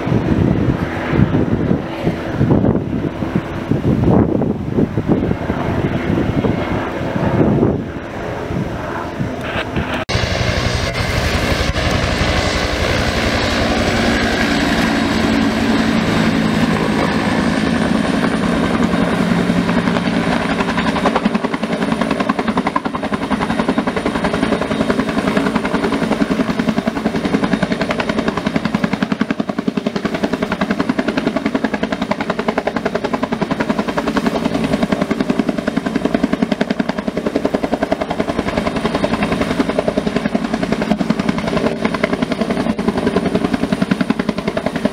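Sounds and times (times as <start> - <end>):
helicopter rotor beating: 0.0 - 44.9
high turbine whine: 0.0 - 44.9.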